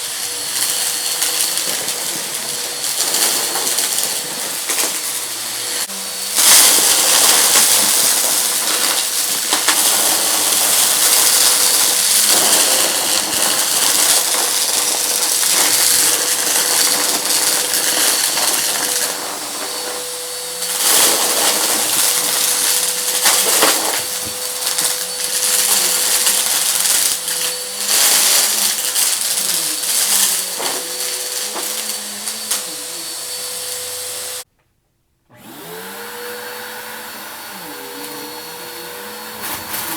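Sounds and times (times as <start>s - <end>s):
debris crackling in vacuum: 0.0s - 34.4s
vacuum cleaner motor whine: 0.0s - 34.5s, 35.3s - 39.9s.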